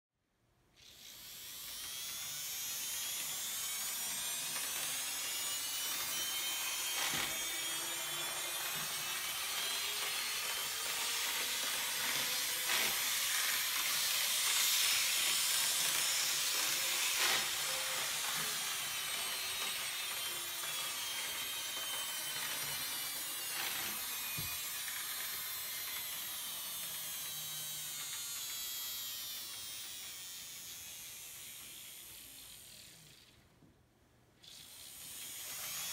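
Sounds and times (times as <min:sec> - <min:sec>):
model locomotive motor whine: 0:00.8 - 0:33.4, 0:34.4 - 0:35.9.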